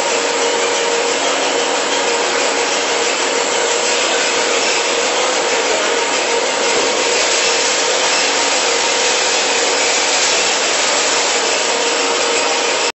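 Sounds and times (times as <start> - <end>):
constant machine hum: 0.0 - 12.9
packing machine running: 0.0 - 12.9.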